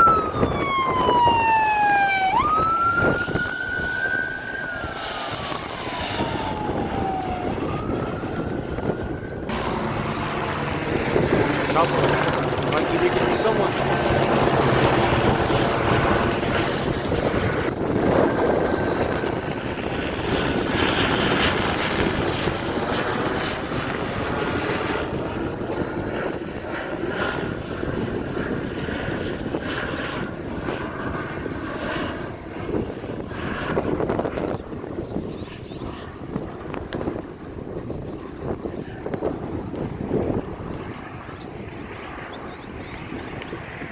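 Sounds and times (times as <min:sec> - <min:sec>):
helicopter flying overhead: 0:00.0 - 0:43.9.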